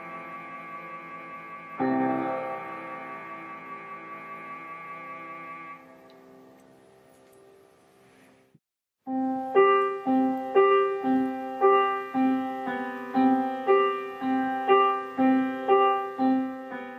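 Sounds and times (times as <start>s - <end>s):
piano notes in steady rhythm: 0.0s - 8.0s, 9.0s - 16.9s
faint tune: 0.0s - 16.9s.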